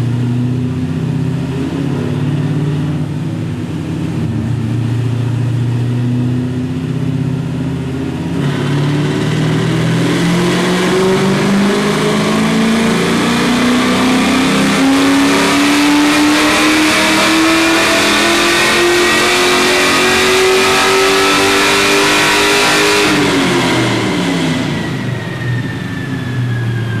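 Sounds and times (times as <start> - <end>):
car engine revving at full throttle: 0.0 - 27.0
high whine of rollers: 0.0 - 27.0.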